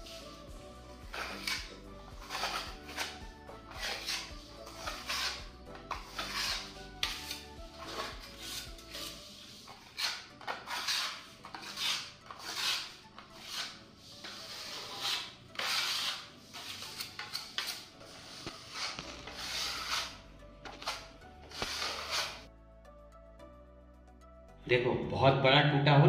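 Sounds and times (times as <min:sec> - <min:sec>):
putty knife scraping wall: 0:01.0 - 0:22.5.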